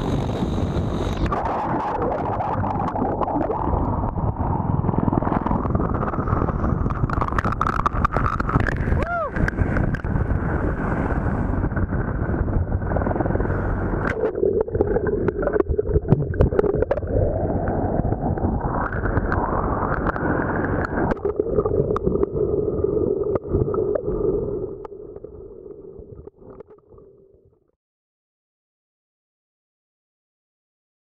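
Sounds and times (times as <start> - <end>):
seawater splashing and rushing: 1.3 - 26.6.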